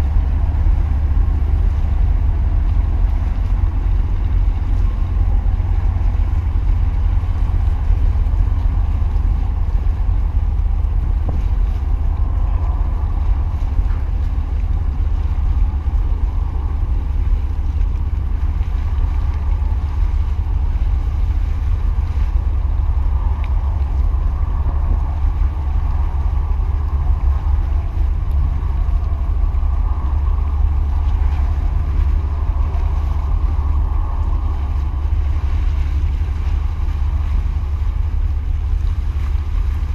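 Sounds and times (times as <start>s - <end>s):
distant ship engine: 0.0s - 39.9s
sea washing: 0.0s - 39.9s
wind rumble on microphone: 0.0s - 39.9s.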